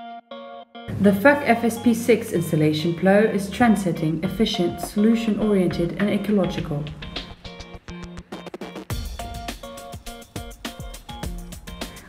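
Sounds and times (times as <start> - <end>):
music with short even notes: 0.1 - 12.0.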